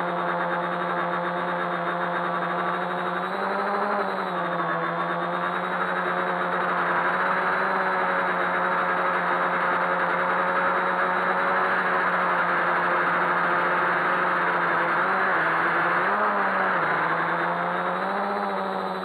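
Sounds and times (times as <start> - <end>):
quadcopter propellers humming: 0.0 - 19.0.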